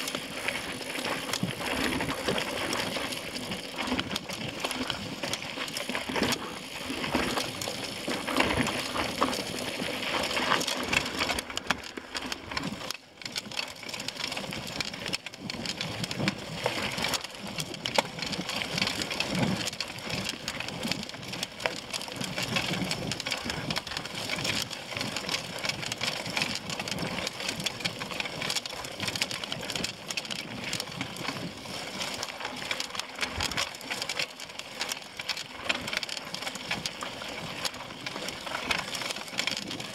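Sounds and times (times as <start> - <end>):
bike rattling over bumps: 0.0 - 39.9.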